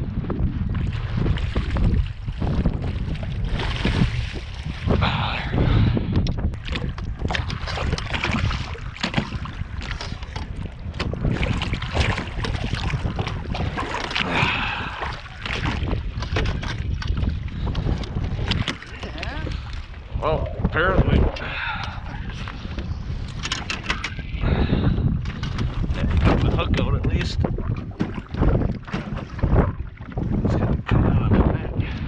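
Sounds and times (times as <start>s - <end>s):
water slapping against boat: 0.0s - 32.0s
wind buffeting microphone: 0.0s - 32.0s.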